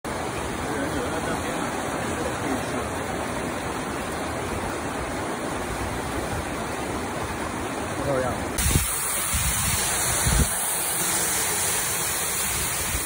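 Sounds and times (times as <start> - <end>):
waterfall roaring: 0.1 - 13.0.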